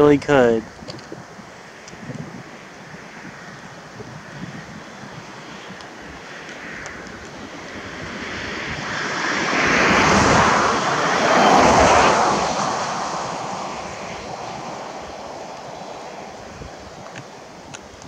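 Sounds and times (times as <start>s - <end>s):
road vehicle passing: 1.6s - 17.7s.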